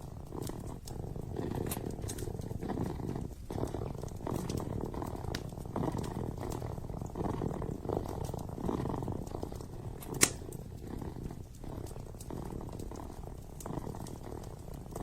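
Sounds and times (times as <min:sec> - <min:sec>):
kitten purring: 0:00.0 - 0:15.0
wood fire crackling: 0:00.0 - 0:15.0.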